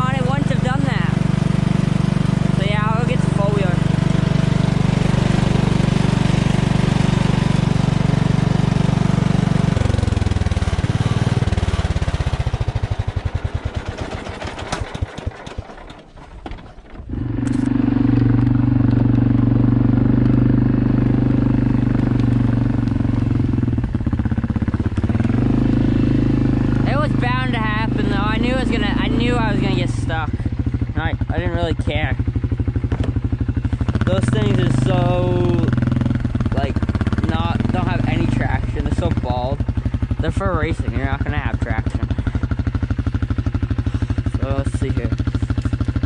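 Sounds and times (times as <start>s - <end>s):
atv engine idling: 0.0s - 16.2s, 17.1s - 46.0s
riding mower engine running: 0.0s - 46.0s.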